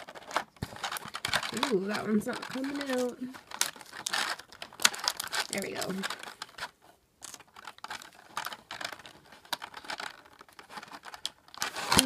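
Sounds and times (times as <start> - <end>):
plastic parts clicking: 0.0 - 12.0
plastic wrapping crinkling: 0.0 - 12.0.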